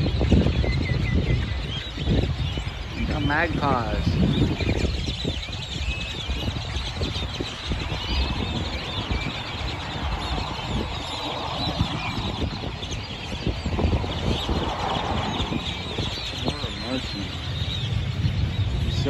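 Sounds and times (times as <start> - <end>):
flock of birds chirping: 0.0 - 19.0.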